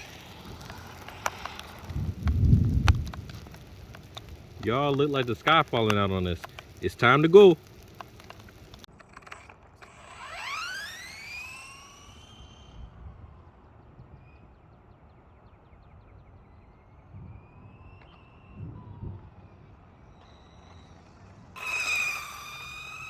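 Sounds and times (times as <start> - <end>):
electric motor whining: 0.0 - 14.4, 16.8 - 23.0.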